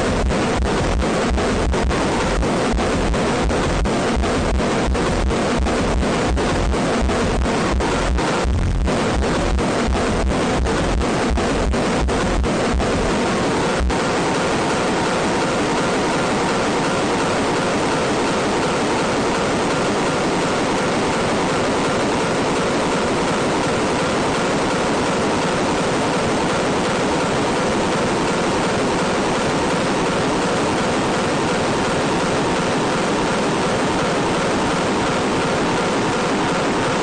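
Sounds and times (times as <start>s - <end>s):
steady static-like rushing noise: 0.0s - 37.0s.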